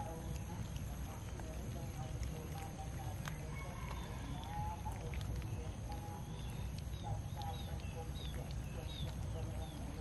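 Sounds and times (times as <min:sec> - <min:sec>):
cats chewing and smacking: 0:00.0 - 0:10.0.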